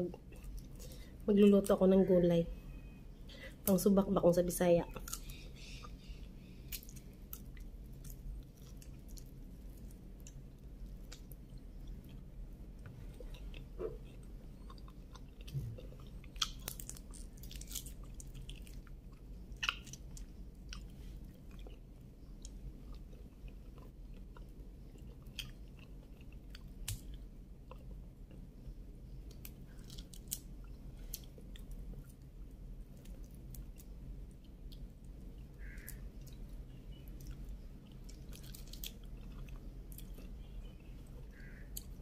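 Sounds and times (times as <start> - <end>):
person chewing shrimp: 5.0 - 42.0.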